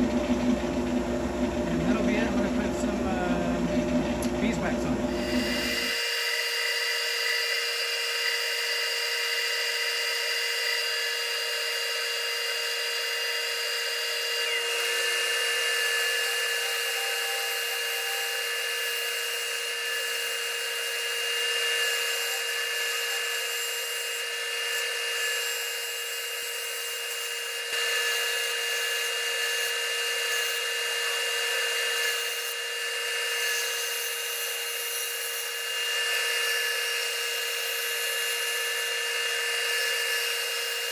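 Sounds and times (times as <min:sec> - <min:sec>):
tool hissing on spinning wood: 0:00.0 - 0:40.9
wood lathe motor whine: 0:00.0 - 0:40.9.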